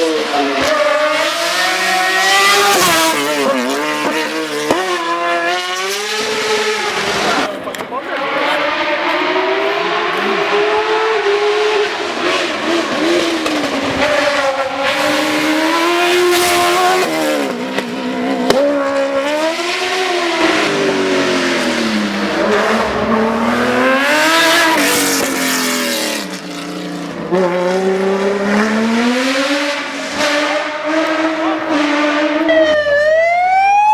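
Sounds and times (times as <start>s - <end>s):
race car engine at high revs: 0.0s - 33.9s.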